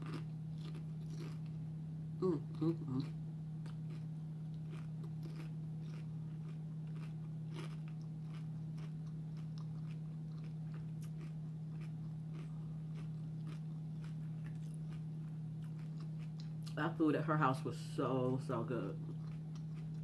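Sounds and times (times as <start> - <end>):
person chewing crunchy food: 0.0 - 1.6, 2.3 - 16.8, 18.9 - 20.0
steady low hum: 0.0 - 20.0.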